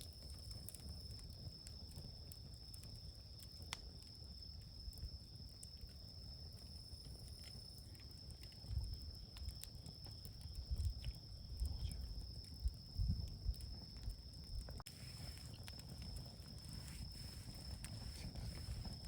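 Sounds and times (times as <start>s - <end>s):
campfire crackling: 0.0s - 19.0s
high-pitched insect trill: 0.0s - 19.0s.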